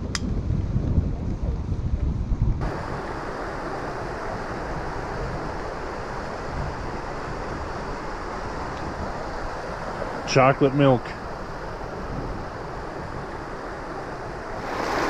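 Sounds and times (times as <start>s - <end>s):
stream of water rushing: 2.6s - 15.0s.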